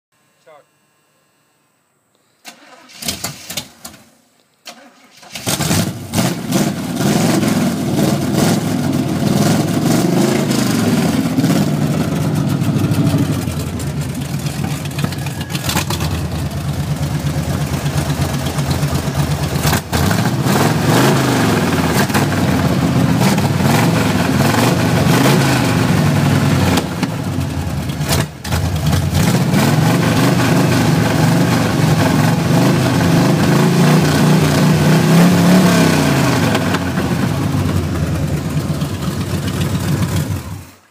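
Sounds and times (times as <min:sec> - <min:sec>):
car engine cranking and revving: 0:04.7 - 0:40.8.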